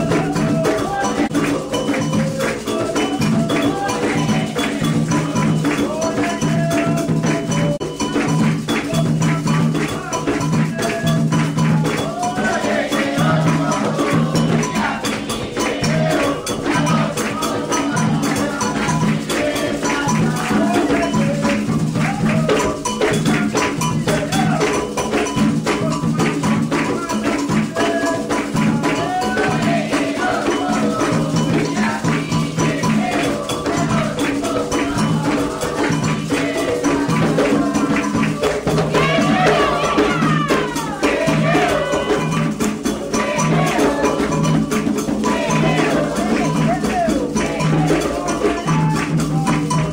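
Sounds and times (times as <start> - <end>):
hand drums beating: 0.0 - 49.9
rattling shaker: 0.0 - 49.9
voices singing: 0.0 - 49.9.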